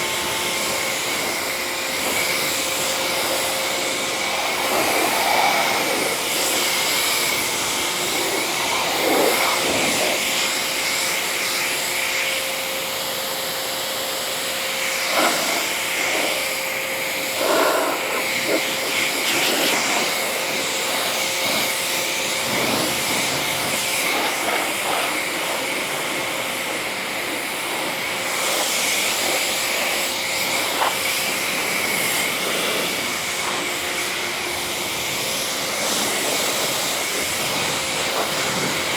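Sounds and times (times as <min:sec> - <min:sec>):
water spray hiss: 0:00.0 - 0:13.2, 0:13.8 - 0:38.9
pressure washer motor whine: 0:00.0 - 0:38.9.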